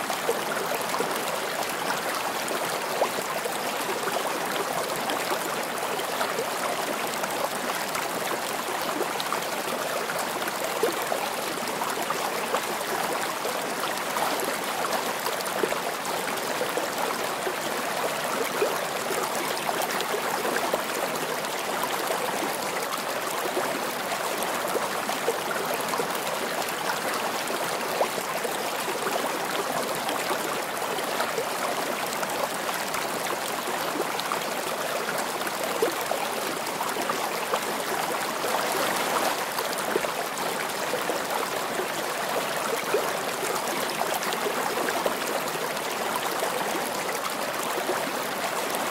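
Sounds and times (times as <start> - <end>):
stream flowing: 0.0 - 48.9.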